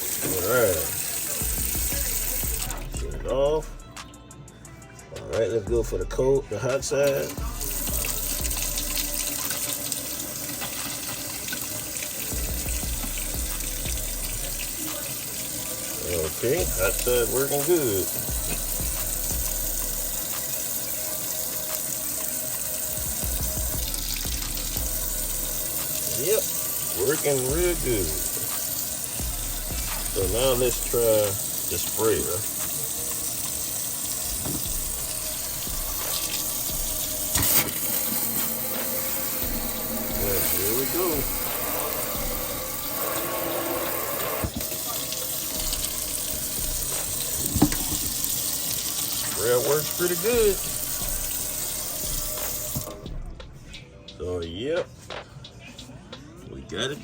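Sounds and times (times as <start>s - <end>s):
faucet water running into sink: 0.0s - 3.6s, 6.8s - 53.2s.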